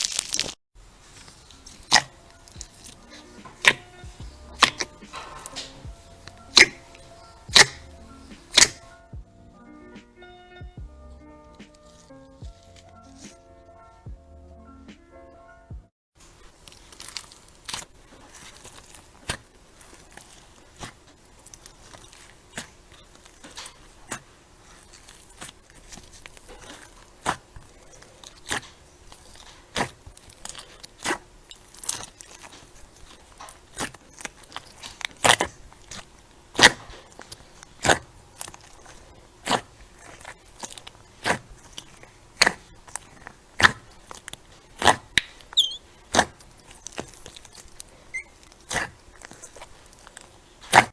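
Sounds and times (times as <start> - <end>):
crunchy slime squeezed: 0.0 - 9.0, 16.2 - 50.9.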